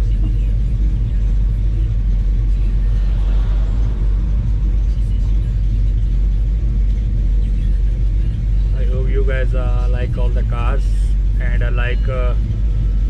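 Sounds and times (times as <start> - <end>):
pickup engine low rumble: 0.0 - 13.0.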